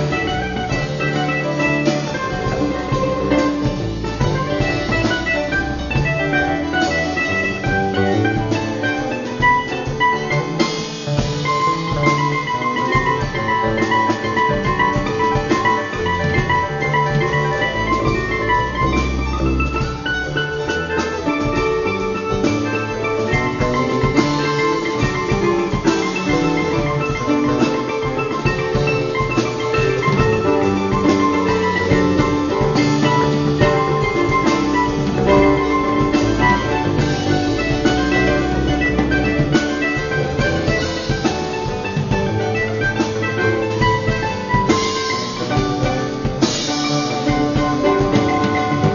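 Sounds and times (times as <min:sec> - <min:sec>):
live band instrumental: 0:00.0 - 0:48.9.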